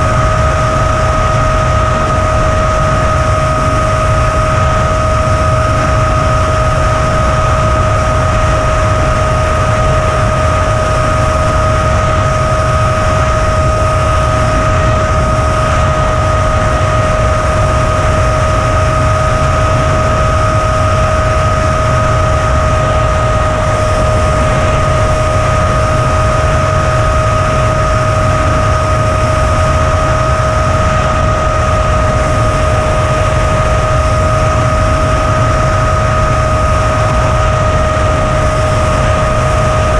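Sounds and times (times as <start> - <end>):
steady high whine: 0.0 - 39.9
wind buffeting microphone: 0.0 - 39.9.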